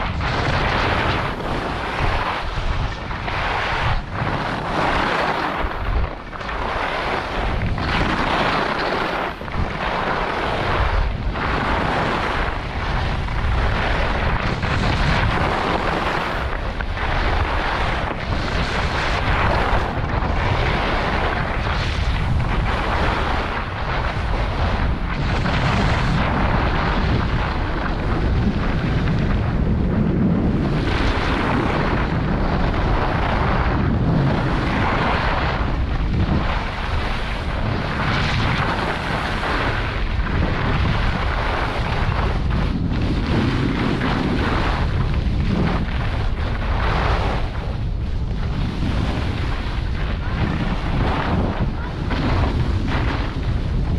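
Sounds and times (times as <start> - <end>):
skis scraping on snow: 0.0 - 53.9
wind buffeting microphone: 0.0 - 53.9.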